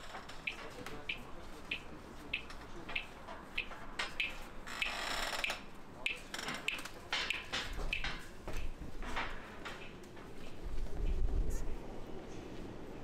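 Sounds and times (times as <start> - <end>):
footsteps walking: 0.0 - 4.8, 6.1 - 11.7.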